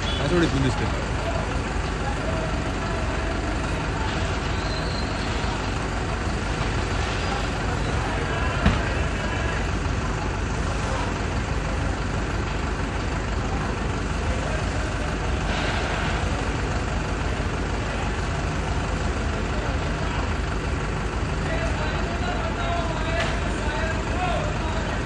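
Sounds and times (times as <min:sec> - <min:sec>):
traffic noise: 0:00.0 - 0:25.0
vehicle engine running: 0:00.0 - 0:25.0.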